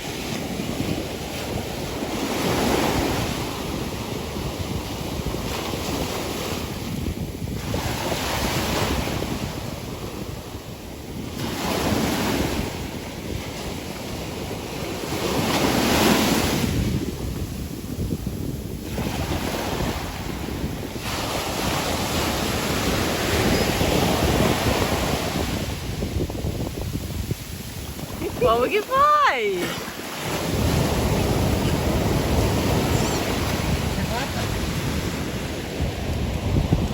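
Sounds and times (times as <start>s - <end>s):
ocean waves breaking: 0.0s - 36.9s
wind buffeting microphone: 0.0s - 36.9s.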